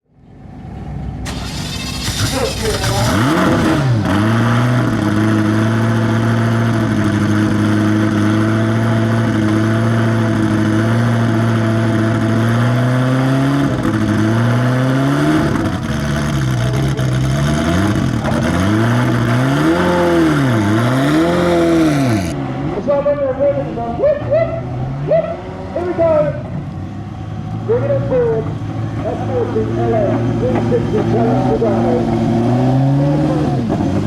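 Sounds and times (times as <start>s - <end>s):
sports car engine revving: 1.3s - 23.0s, 24.2s - 34.0s.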